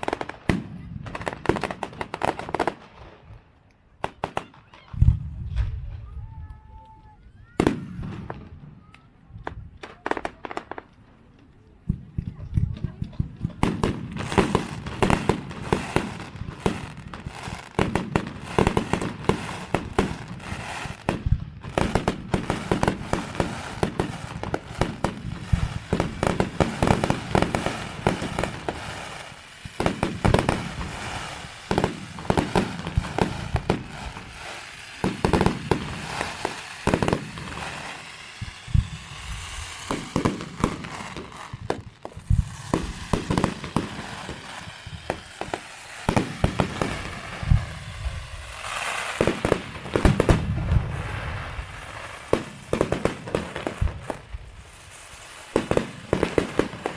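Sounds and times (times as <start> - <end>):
fireworks bangs: 0.0 - 56.9
fireworks crackling: 0.0 - 56.9.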